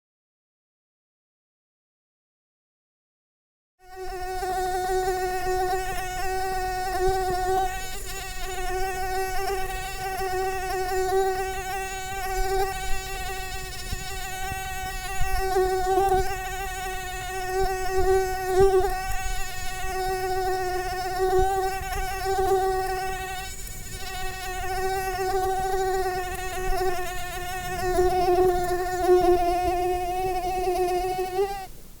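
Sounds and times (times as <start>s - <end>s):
mosquito buzzing: 3.8s - 31.7s.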